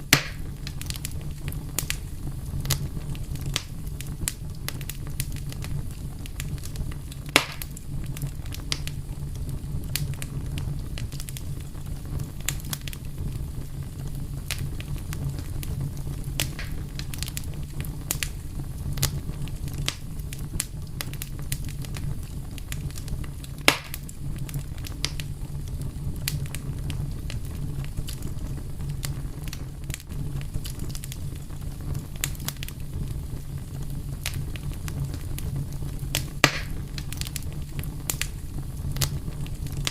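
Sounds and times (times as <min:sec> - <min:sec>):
fire crackling: 0:00.0 - 0:39.9
loud fire pops: 0:00.0 - 0:39.9
low fire rumble: 0:00.0 - 0:39.9.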